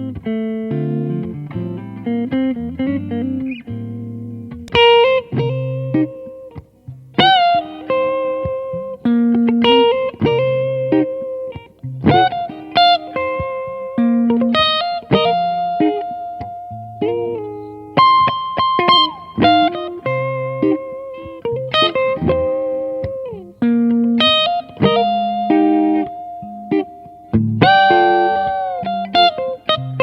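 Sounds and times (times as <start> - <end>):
clean electric guitar: 0.0 - 30.0.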